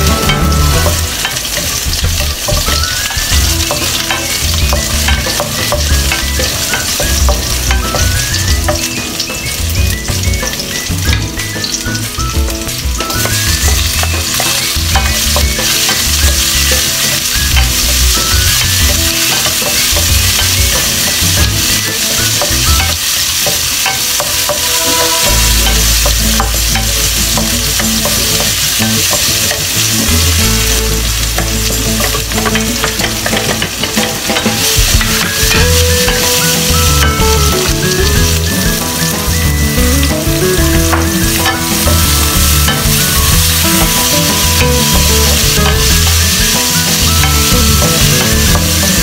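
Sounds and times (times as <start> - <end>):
vegetables sizzling in hot oil: 0.0 - 49.0.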